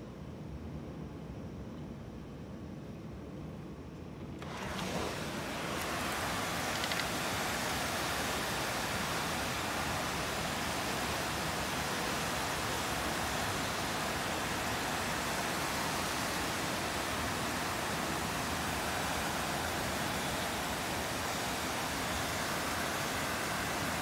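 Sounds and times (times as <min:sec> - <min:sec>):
heavy rain pouring: 0:04.4 - 0:24.0.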